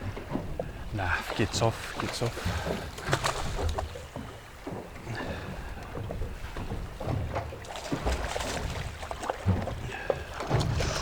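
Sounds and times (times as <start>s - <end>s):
water moving around boat: 0.0s - 11.0s.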